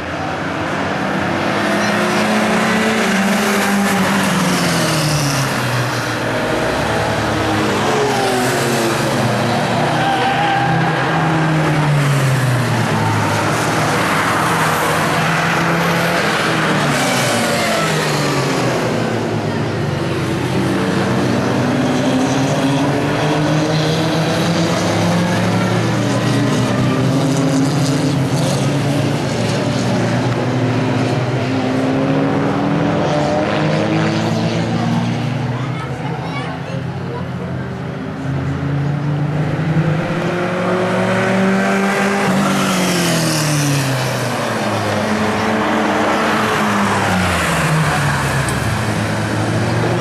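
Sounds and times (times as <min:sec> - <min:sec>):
racing car engines revving: 0:00.0 - 0:50.0.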